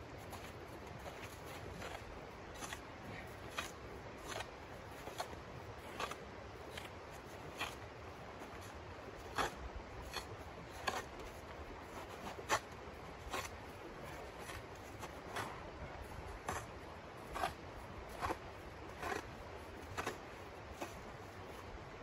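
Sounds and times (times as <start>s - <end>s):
shovel scraping crusted snow: 0.2s - 7.8s, 8.4s - 21.7s.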